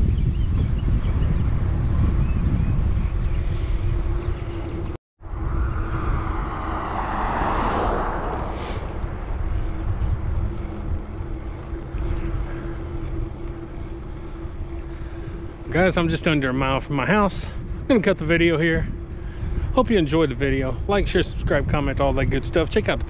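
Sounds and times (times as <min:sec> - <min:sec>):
steady low hum: 0:00.0 - 0:23.0
wind buffeting microphone: 0:00.0 - 0:23.0.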